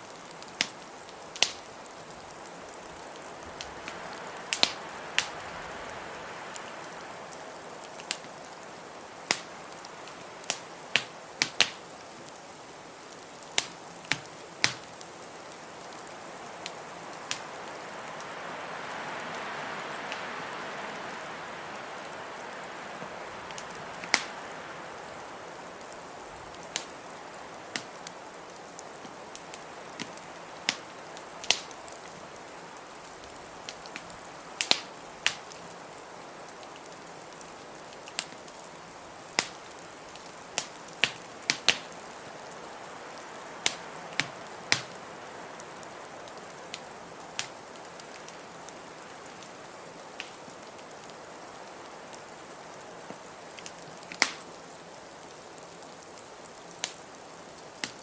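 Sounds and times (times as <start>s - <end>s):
fire background hiss: 0.0s - 58.0s
wood fire crackling: 0.0s - 58.0s.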